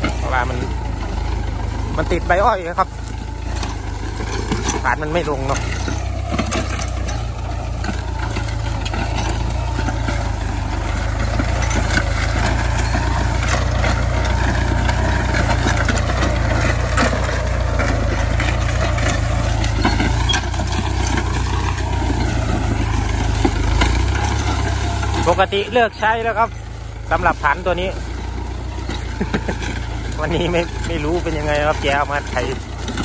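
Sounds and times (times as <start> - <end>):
crackles and clicks: 0.0 - 33.0
tractor diesel engine running: 0.0 - 33.0.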